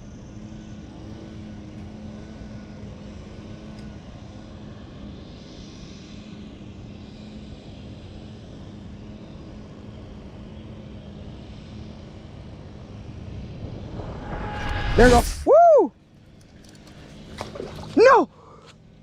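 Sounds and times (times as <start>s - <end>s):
steady engine drone: 0.0s - 19.0s.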